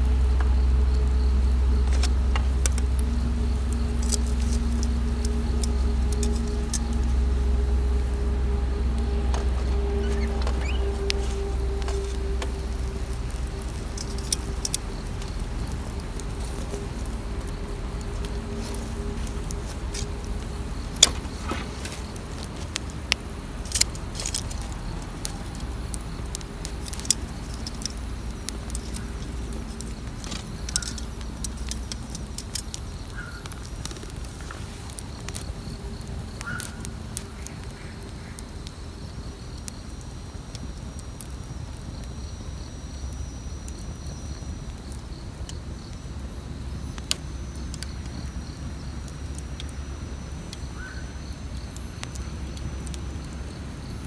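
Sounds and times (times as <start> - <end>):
campfire crackling and popping: 0.0 - 54.0
steady low rumble: 0.0 - 54.0.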